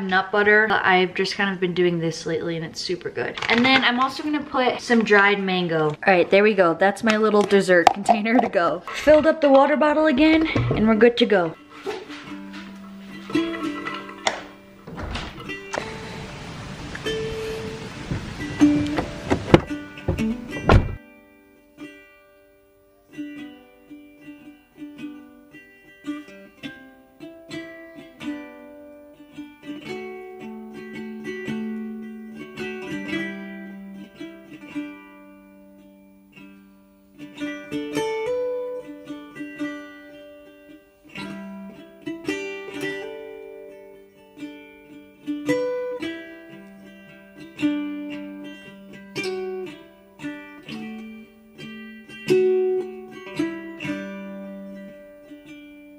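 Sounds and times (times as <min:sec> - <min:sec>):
plucked string instrument tune: 0:00.0 - 0:55.9.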